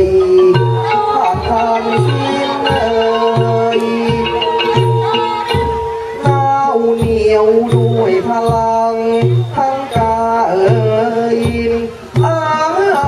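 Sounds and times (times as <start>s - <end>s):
wavering melodic line: 0.0s - 11.4s
low drum strokes: 0.0s - 13.0s.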